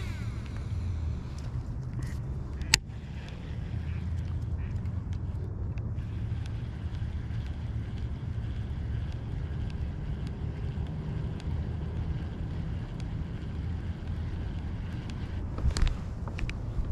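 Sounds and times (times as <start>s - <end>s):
wind buffeting microphone: 0.0s - 16.9s
faint light ticks: 0.4s - 16.6s.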